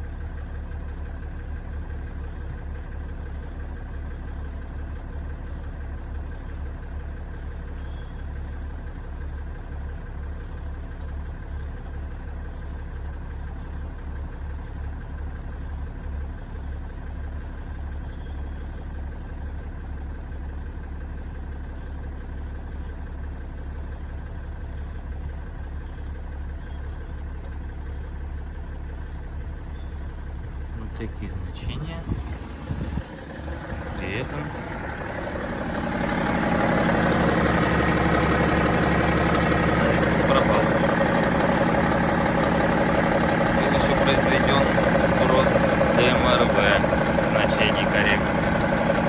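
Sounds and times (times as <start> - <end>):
diesel engine idling: 0.0 - 49.0
engine knocking: 0.0 - 49.0.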